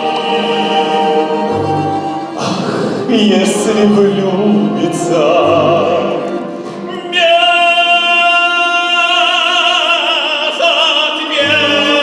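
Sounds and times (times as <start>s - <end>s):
instrumental accompaniment: 0.0s - 12.0s
man singing with vibrato: 0.0s - 12.0s.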